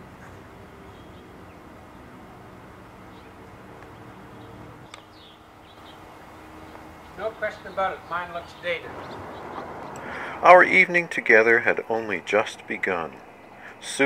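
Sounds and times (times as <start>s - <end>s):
outdoor background hiss and hum: 0.0s - 14.0s.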